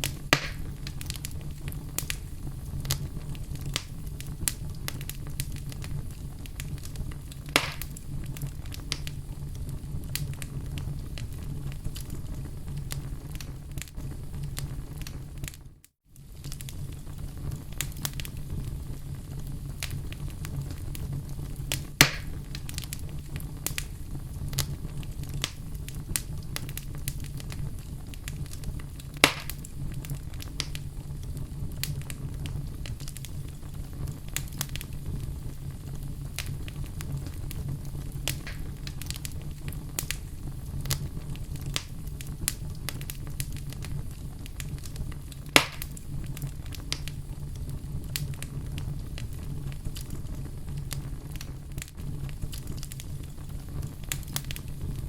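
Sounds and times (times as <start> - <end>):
fire crackling: 0.0 - 55.0
loud fire pops: 0.0 - 55.0.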